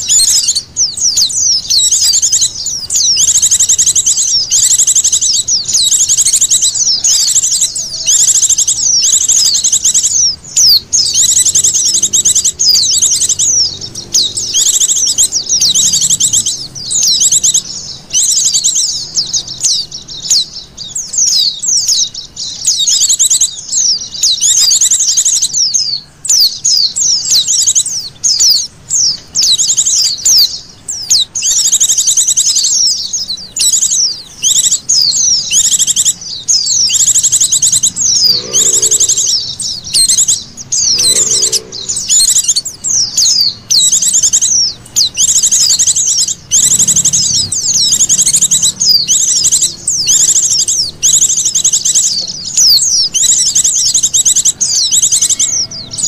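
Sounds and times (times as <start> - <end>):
birds trilling and chirping: 0.0 - 56.0.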